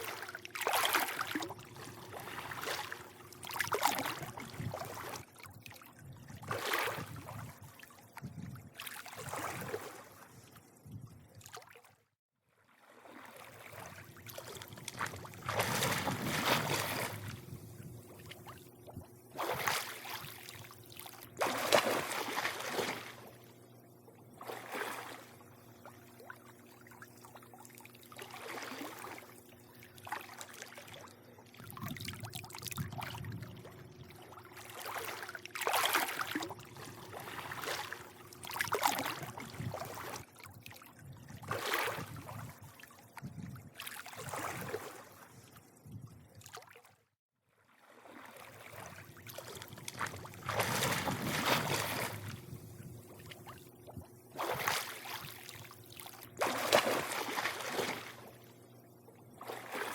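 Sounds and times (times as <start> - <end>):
pool water lapping and splashing: 0.0 - 59.9.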